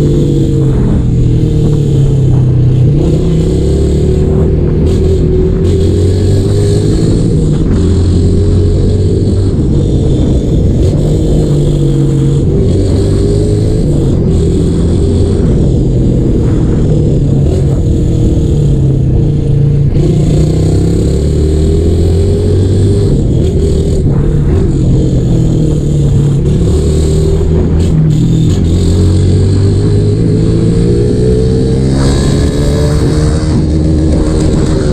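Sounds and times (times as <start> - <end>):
loud raspy motorcycle engine: 0.0 - 34.9.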